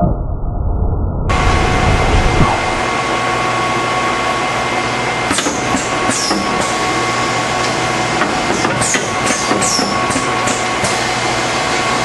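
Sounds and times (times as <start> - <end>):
machinery humming and whining: 1.3 - 12.0.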